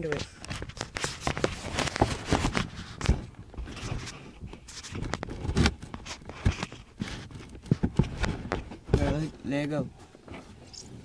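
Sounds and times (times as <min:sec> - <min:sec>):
microphone handling rustle: 0:00.0 - 0:11.0
knocks and thumps: 0:00.5 - 0:09.4.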